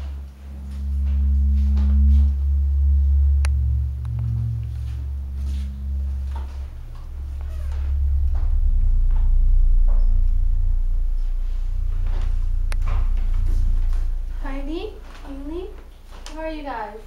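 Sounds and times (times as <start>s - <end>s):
low synthesized drone: 0.0s - 17.0s.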